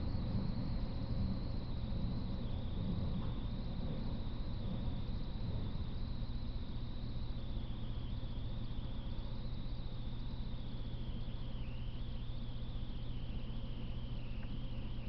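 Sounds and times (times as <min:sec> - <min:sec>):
low hum: 0:00.0 - 0:15.0
thin high whine: 0:00.0 - 0:15.0.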